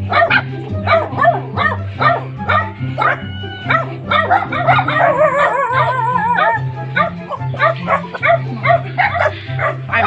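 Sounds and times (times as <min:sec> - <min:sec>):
background music with bass line: 0:00.0 - 0:10.0
dog barking: 0:00.0 - 0:10.0.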